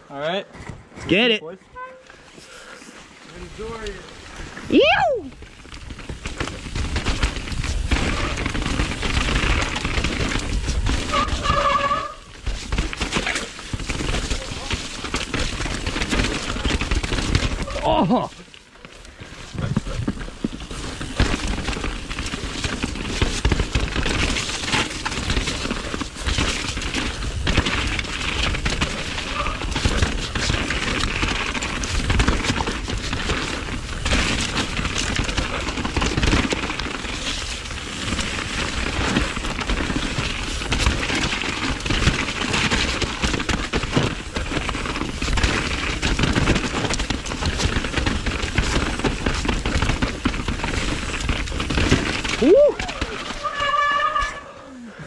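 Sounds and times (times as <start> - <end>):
steady rushing noise: 2.3 - 53.4
bike clattering over rough ground: 3.4 - 54.5.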